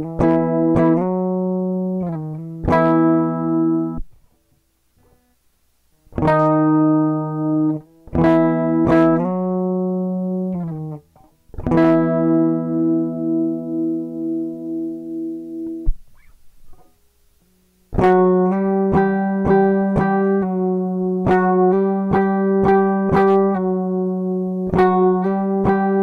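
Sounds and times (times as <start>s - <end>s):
slow guitar lead melody: 0.0s - 4.3s, 6.0s - 26.0s.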